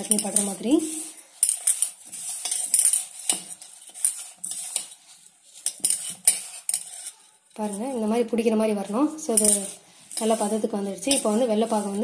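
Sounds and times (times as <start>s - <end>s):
scrapes and clinks in steel bowl: 0.0s - 8.1s, 9.3s - 12.0s
gritty rustle of flour: 0.0s - 8.2s, 9.3s - 12.0s.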